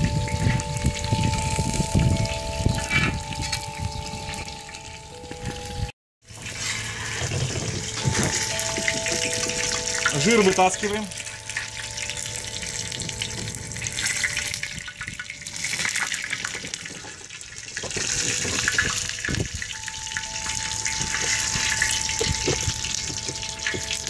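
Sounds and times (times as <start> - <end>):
hot oil sizzling and popping: 0.0 - 24.0.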